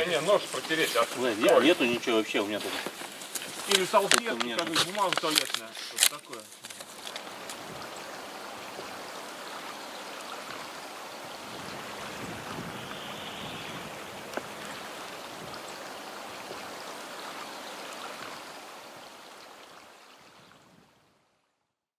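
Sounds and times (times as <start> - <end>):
stream water running: 0.0 - 21.6.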